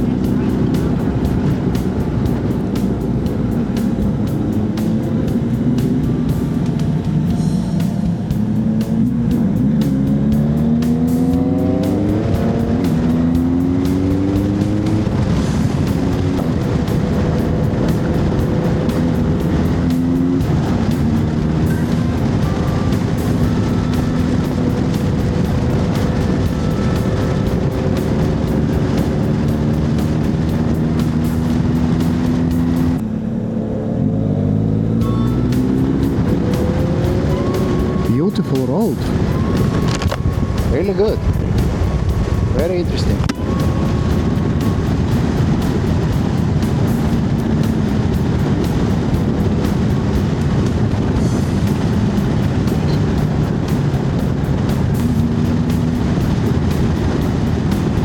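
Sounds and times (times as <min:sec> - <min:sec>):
motorcycle engine accelerating: 0:00.0 - 0:58.0
wind on microphone: 0:00.0 - 0:58.0.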